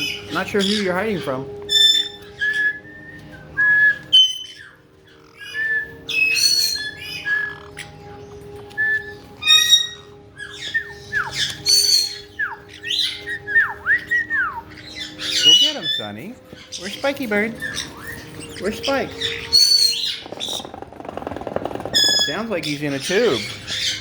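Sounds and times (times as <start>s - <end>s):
parrots squawking and whistling: 0.0s - 24.0s.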